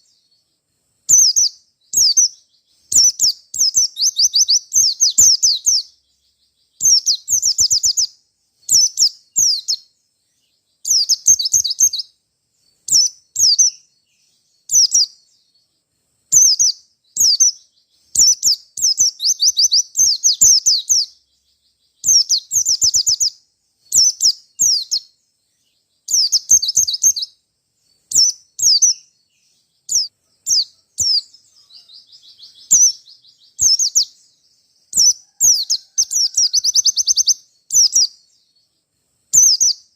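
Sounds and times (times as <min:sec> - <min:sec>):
bird singing high-pitched chirps: 0:00.0 - 0:39.9
soft bird twittering: 0:00.0 - 0:39.9.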